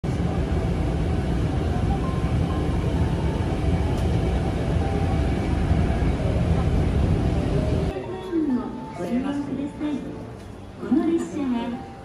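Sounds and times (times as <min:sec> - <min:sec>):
train rumble and hiss inside carriage: 0:00.0 - 0:12.0.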